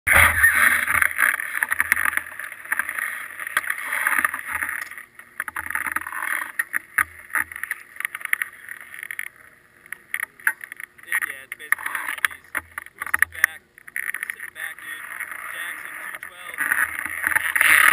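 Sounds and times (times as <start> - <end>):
clicks and knocks from skis: 0.1 - 17.9.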